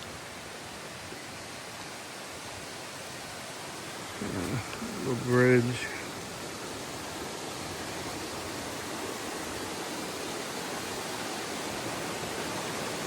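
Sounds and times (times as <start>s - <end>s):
stream over small cascade: 0.0s - 13.0s.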